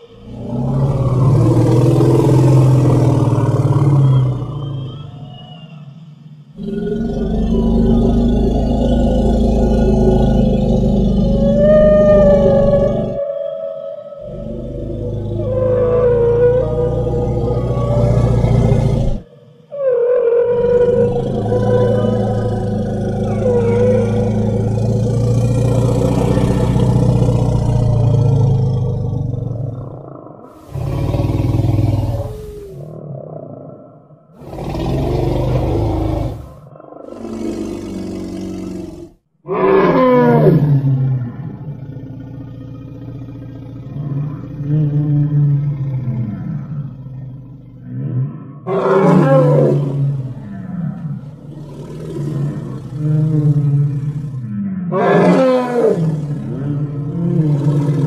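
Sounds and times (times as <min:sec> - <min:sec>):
deep dinosaur growl: 0:00.0 - 0:05.0, 0:06.1 - 0:13.3, 0:14.2 - 0:58.0.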